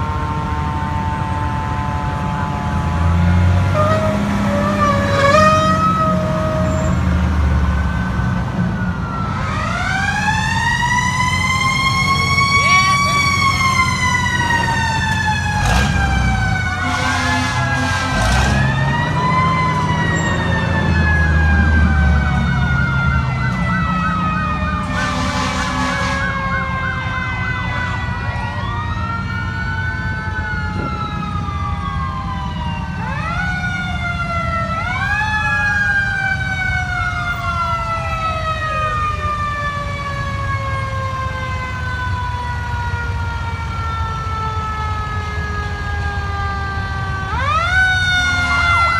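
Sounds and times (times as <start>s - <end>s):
fire truck sirens wailing: 0.0s - 48.9s.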